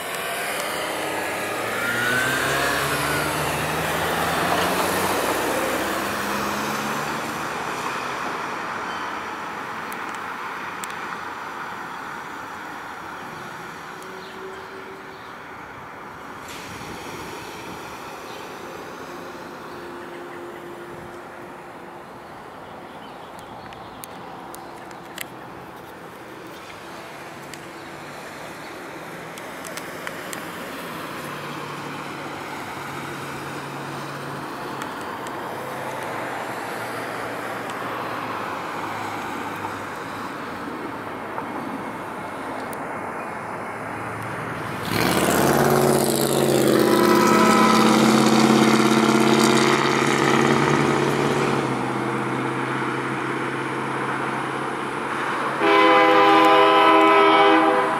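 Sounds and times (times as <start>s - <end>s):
locomotive diesel engine: 0.0s - 57.9s
road traffic: 0.0s - 57.9s.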